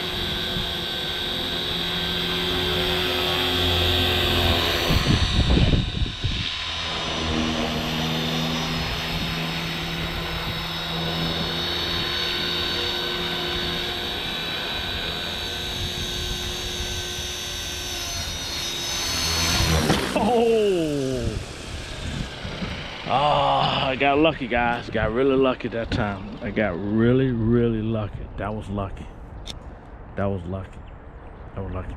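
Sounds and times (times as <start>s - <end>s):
electric helicopter motor whine: 0.0s - 28.1s.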